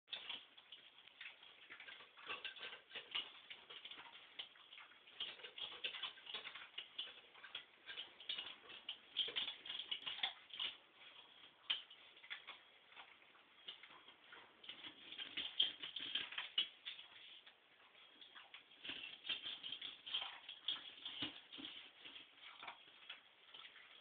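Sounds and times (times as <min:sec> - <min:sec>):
puppies eating from metal bowls: 0:00.1 - 0:24.0.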